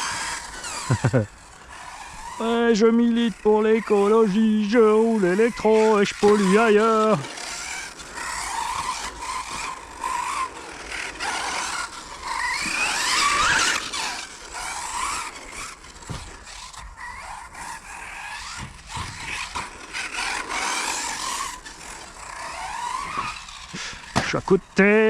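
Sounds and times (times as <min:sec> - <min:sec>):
electric motor whining: 0:00.0 - 0:25.0.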